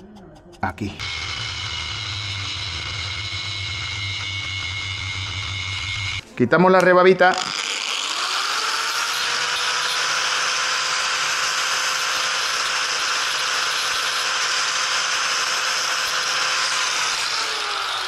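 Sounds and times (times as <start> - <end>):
angle grinder grinding metal: 0.7 - 6.2, 6.8 - 18.0.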